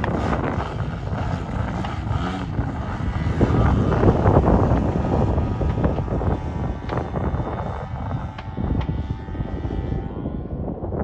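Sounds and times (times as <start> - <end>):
model plane engine: 0.0 - 11.0
wind on microphone: 0.0 - 11.0.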